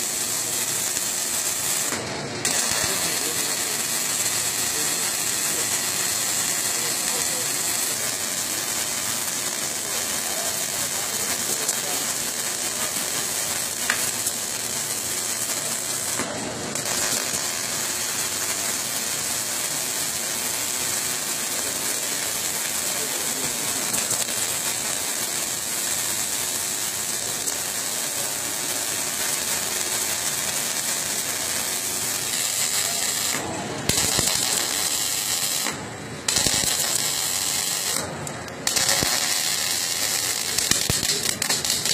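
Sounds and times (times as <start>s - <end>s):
arc welding crackle and hiss: 0.0s - 41.9s.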